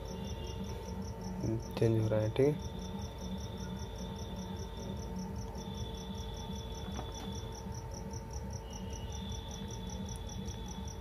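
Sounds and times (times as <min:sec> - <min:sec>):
cricket chirping: 0:00.0 - 0:11.0
faint steady tones: 0:00.0 - 0:11.0.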